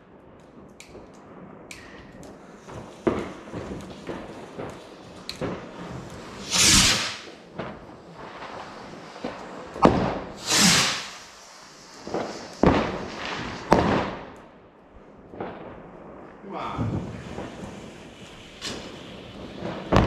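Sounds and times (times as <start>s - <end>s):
small fireworks pops: 0.0s - 14.6s, 15.2s - 20.0s
fireworks bangs: 0.0s - 20.0s
fireworks hissing whooshes: 1.8s - 14.4s, 15.4s - 20.0s.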